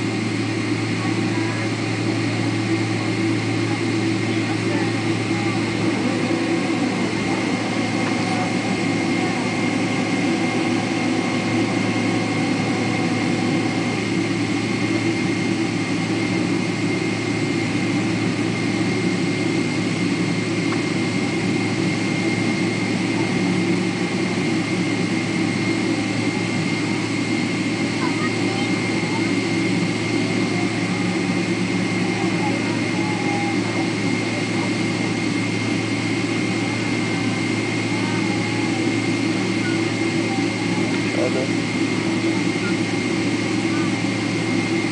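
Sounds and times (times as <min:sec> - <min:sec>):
jet engines heard from cabin: 0:00.0 - 0:44.9.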